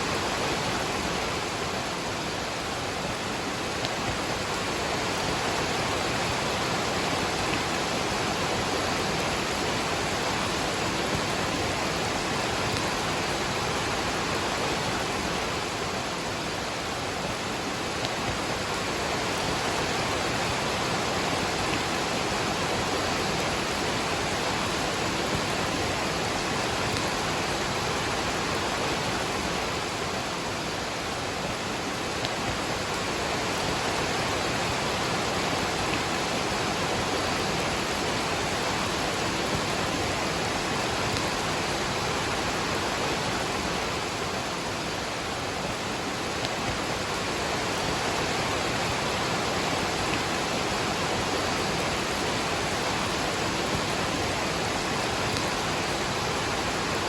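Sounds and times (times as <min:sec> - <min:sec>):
waterfall and rain rushing: 0:00.0 - 0:57.0.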